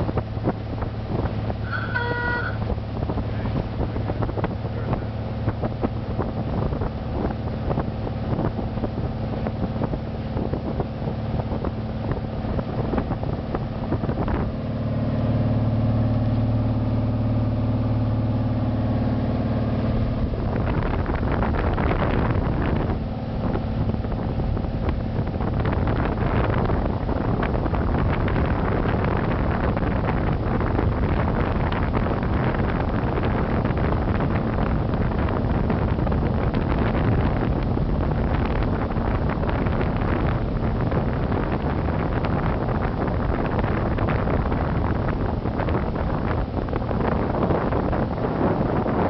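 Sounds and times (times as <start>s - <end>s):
boat engine running: 0.0s - 49.0s
wind buffeting microphone: 0.0s - 49.0s.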